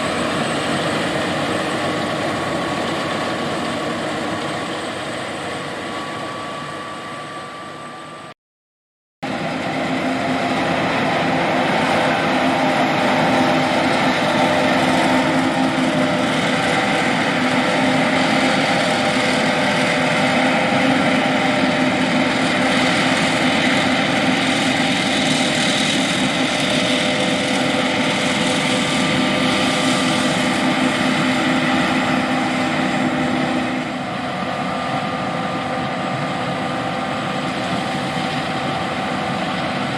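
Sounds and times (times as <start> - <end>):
combine harvester engine drone: 0.0 - 8.4, 9.2 - 39.9.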